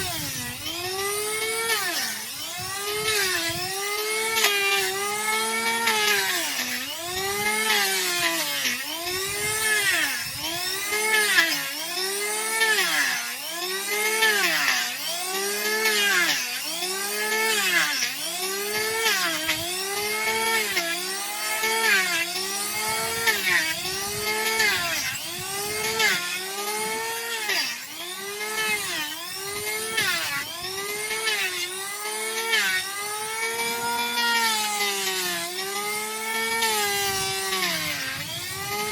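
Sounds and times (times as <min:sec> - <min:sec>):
power tool grinding hoof: 0:00.0 - 0:38.9.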